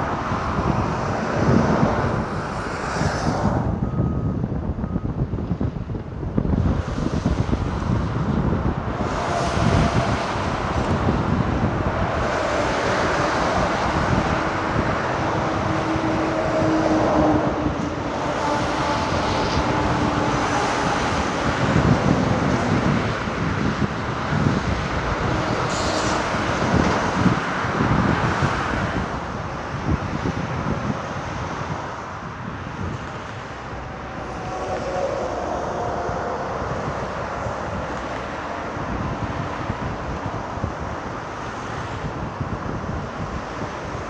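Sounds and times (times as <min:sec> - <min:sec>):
wind buffeting microphone: 0:00.0 - 0:44.0
diesel engine running under load: 0:03.6 - 0:41.1.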